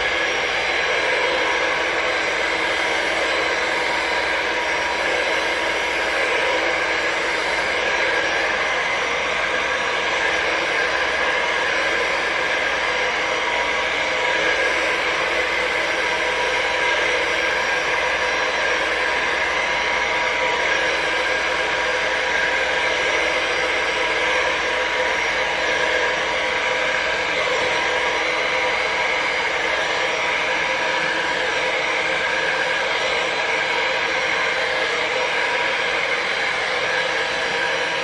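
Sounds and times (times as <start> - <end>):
blow dryer running: 0.0 - 38.0.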